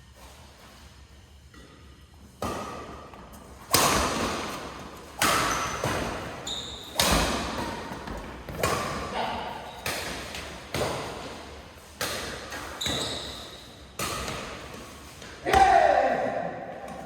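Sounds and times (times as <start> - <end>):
rackets hitting shuttlecock: 2.4 - 17.0.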